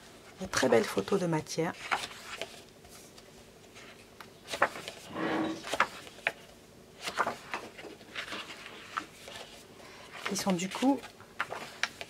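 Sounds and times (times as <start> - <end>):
paper sheets rustling: 0.4 - 12.0.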